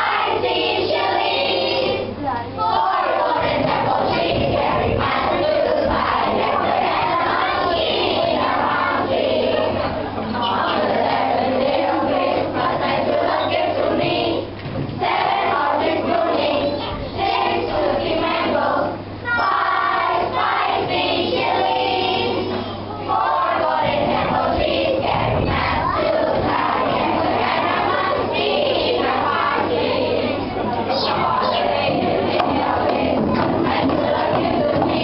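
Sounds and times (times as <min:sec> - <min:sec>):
children singing in unison: 0:00.0 - 0:35.0.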